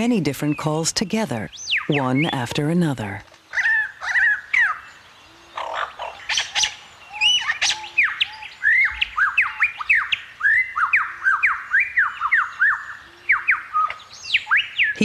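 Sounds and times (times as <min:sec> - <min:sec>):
lyrebird singing whistled notes: 0:00.0 - 0:02.6, 0:03.5 - 0:15.0.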